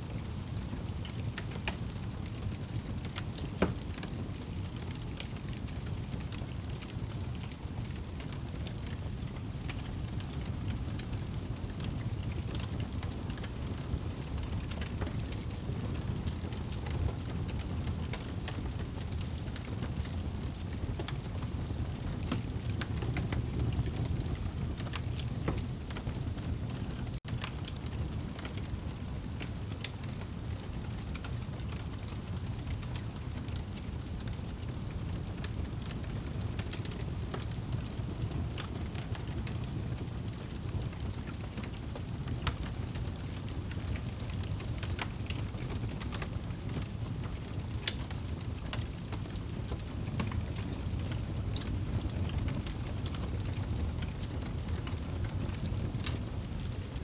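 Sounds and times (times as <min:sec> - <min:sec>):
low rumble of flames: 0:00.0 - 0:57.0
fire crackling and popping: 0:00.1 - 0:57.0.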